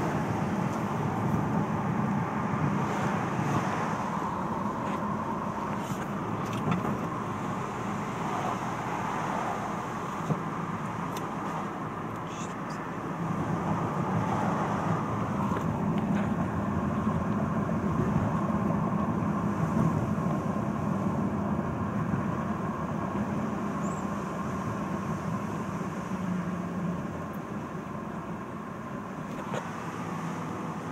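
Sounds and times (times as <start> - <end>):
car engine and road rumble: 0.0 - 30.9.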